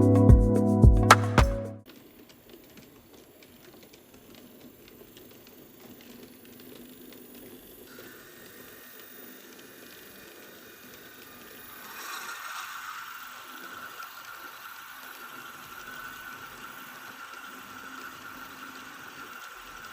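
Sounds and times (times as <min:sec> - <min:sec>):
model train wheels clicking: 0:01.9 - 0:19.9.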